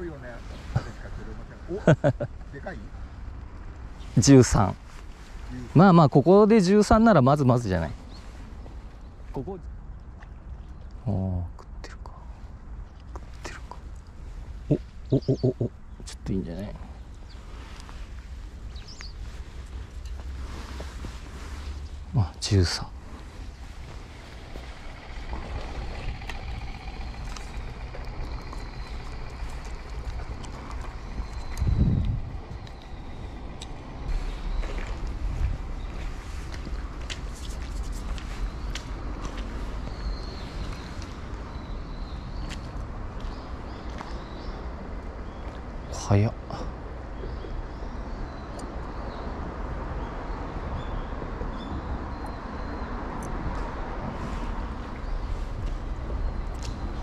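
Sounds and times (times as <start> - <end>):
outdoor background noise: 0.0 - 57.0
traffic rumble overhead: 0.0 - 57.0.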